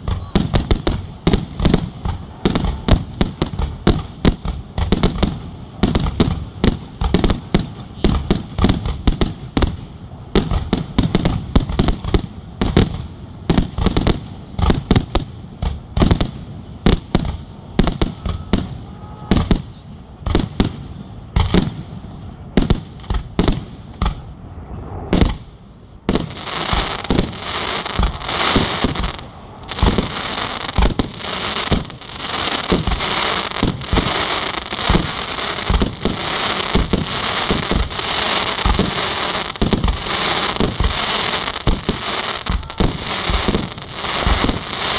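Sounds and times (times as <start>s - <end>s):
dense firework crackling: 0.0s - 44.9s.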